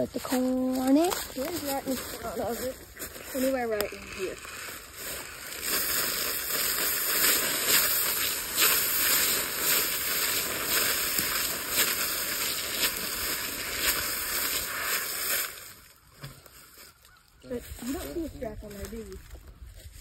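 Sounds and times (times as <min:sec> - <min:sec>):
corn kernels pouring onto leaves: 0:00.0 - 0:16.1.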